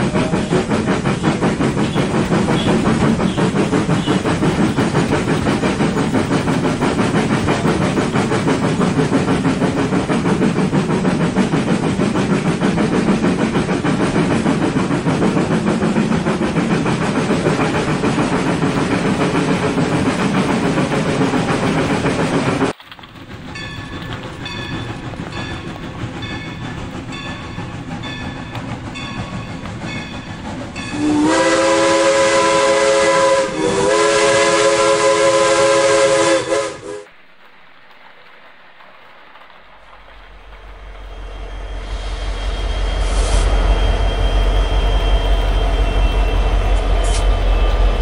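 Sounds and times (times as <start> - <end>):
model trains rattling on track: 0.0 - 48.0.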